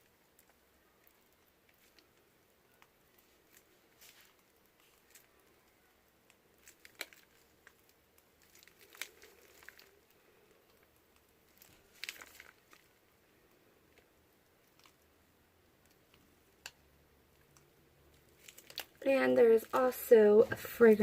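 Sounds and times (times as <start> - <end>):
plastic bag crinkling: 0.4 - 5.9, 6.5 - 13.1, 13.9 - 15.0, 17.3 - 21.0.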